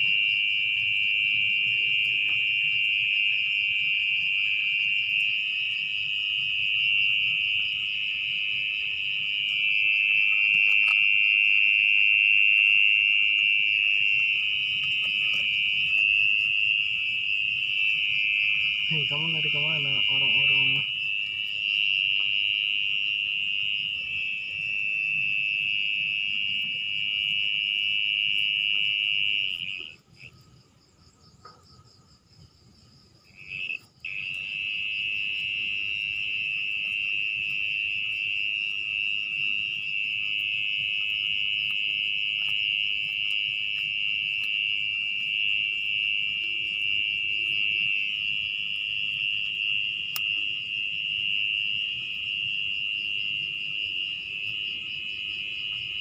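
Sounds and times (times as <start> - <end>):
mole cricket trilling: 0.0 - 56.0.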